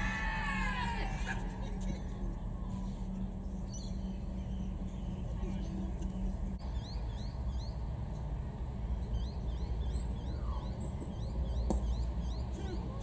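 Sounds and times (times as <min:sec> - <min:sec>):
birds chirping: 0:00.0 - 0:13.0
low steady rumble: 0:00.0 - 0:13.0.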